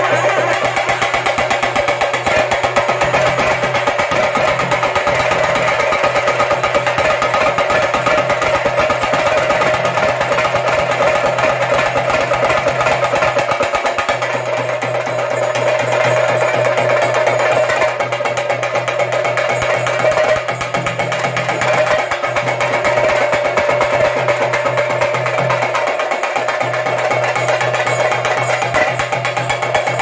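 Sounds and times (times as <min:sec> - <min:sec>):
drums beaten with sticks: 0:00.0 - 0:30.0.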